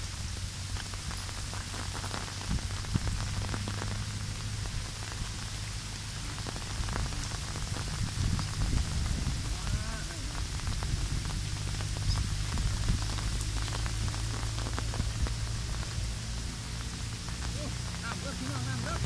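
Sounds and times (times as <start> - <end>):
low rumble: 0.0 - 19.0
raindrops tapping: 0.0 - 19.0
steady rain: 0.0 - 19.0.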